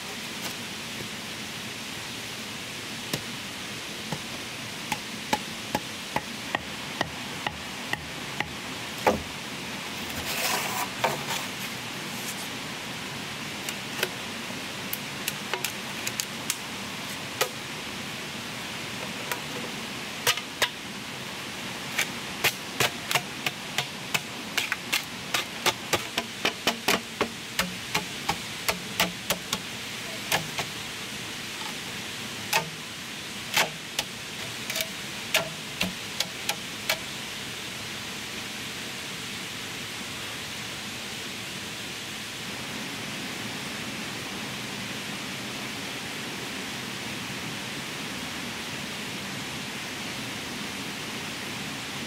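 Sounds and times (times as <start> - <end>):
steady rushing hiss: 0.0 - 52.0.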